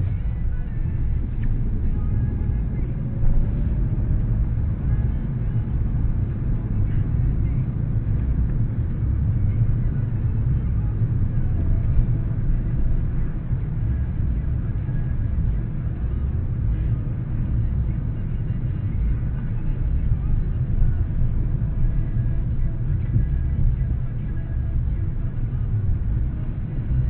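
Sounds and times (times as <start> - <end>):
car driving rumble in cabin: 0.0 - 27.0.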